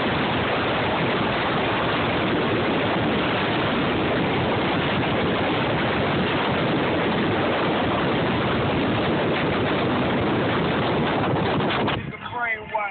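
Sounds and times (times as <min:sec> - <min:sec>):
car road noise: 0:00.0 - 0:12.9
wind rushing: 0:00.0 - 0:12.9.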